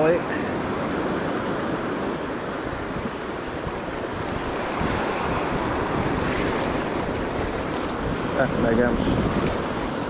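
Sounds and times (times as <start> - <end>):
surf breaking over rocks: 0.0 - 10.0
wind on microphone: 0.6 - 10.0.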